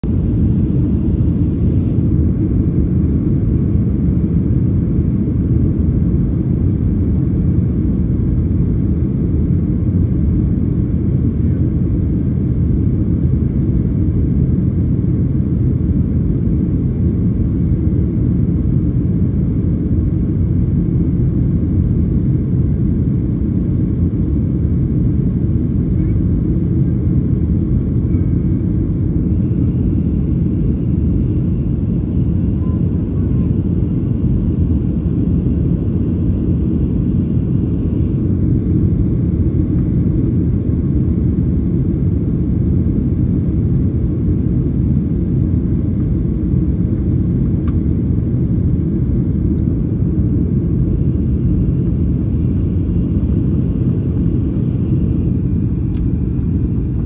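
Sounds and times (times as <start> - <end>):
jet airliner cabin roar: 0.0 - 57.0.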